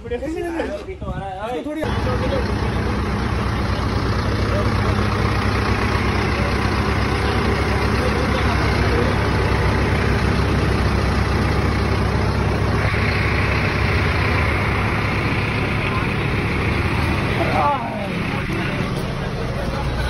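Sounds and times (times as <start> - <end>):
diesel engine idling: 1.8 - 20.0.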